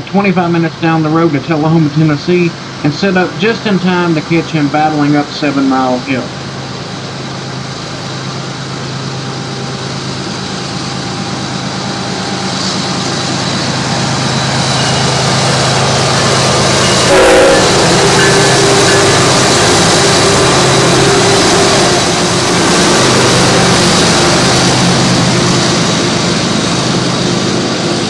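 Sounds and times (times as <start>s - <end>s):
diesel locomotive engines droning: 0.0s - 28.0s.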